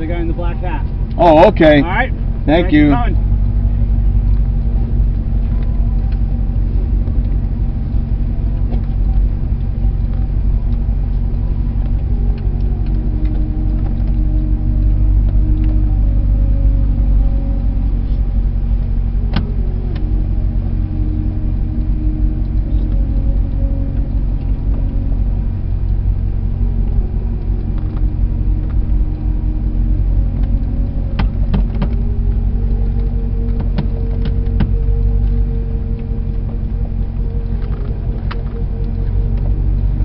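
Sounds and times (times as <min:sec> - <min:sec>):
car engine running: 0:00.0 - 0:40.0.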